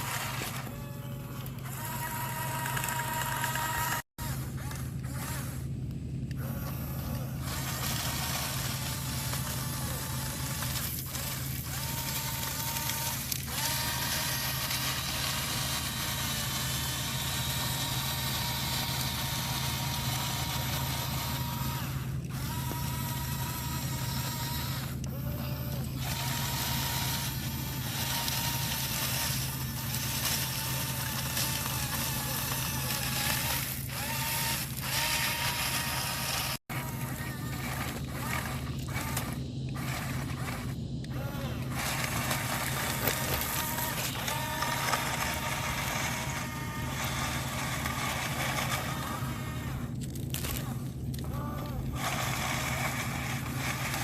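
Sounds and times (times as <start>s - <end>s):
model machines running: 0.0s - 54.0s
thin whine: 0.0s - 54.0s.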